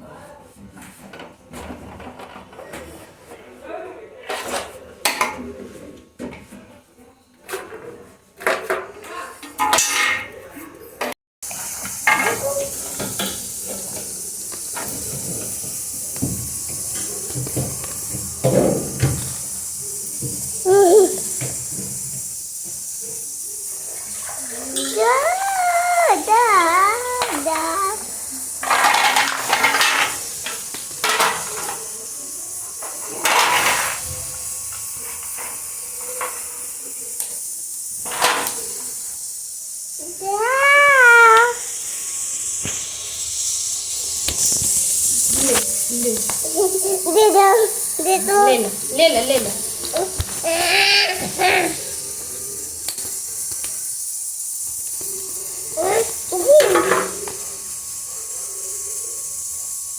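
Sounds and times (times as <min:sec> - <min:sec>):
steady hiss: 0:11.4 - 0:59.9.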